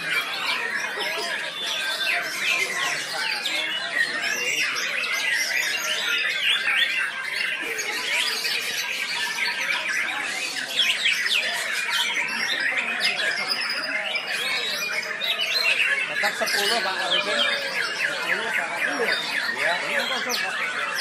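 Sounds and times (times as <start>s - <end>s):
songbirds chorus: 0.0s - 21.0s.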